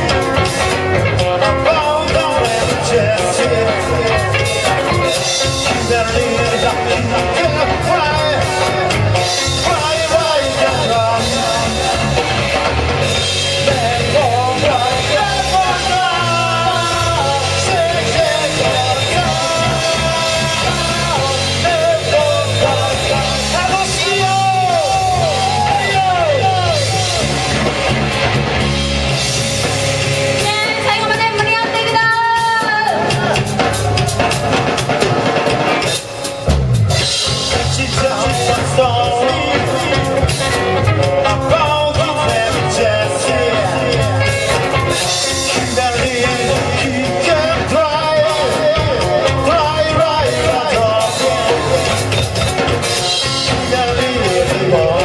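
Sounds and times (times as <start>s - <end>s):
person singing: 0.0s - 27.9s, 30.3s - 36.0s, 37.0s - 55.0s
drum kit: 0.0s - 55.0s
rock band playing live: 0.0s - 55.0s.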